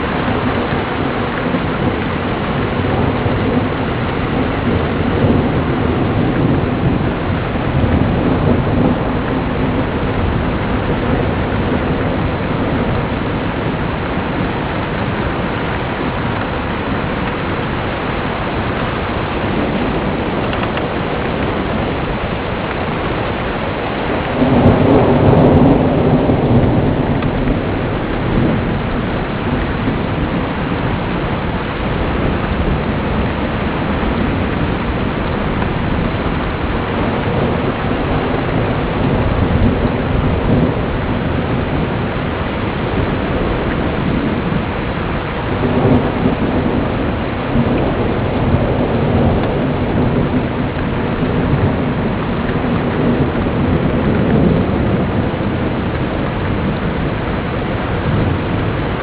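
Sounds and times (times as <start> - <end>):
heavy rain: 0.0 - 59.0
thunder rumbling: 0.0 - 59.0.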